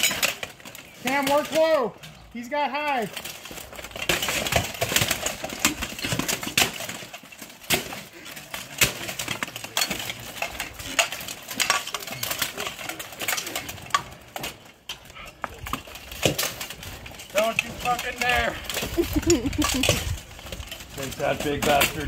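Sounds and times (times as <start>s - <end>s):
armour and weapons clanking: 0.0s - 22.0s.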